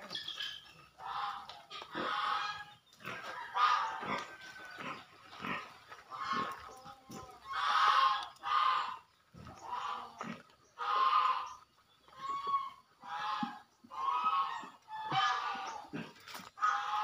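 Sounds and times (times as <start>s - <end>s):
animal calling: 0.0s - 17.0s.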